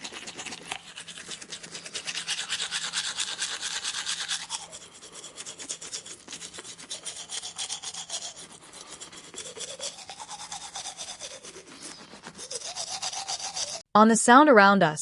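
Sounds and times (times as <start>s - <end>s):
rhythmic scrubbing strokes: 0.0s - 13.9s.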